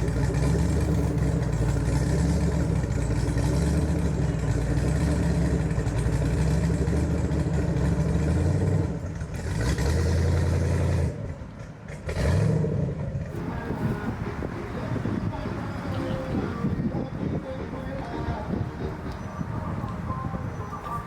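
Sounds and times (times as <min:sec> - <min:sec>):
boat engine running: 0:00.0 - 0:12.0, 0:13.3 - 0:21.0.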